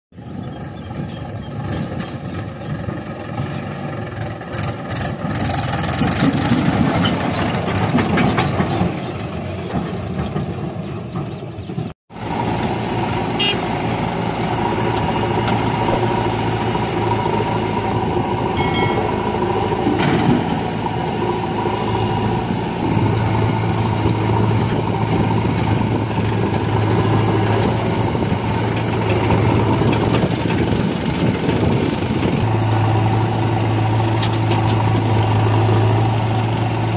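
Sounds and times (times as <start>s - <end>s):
backhoe loader diesel engine: 0.2s - 36.9s
tractor diesel engine running: 0.2s - 36.9s.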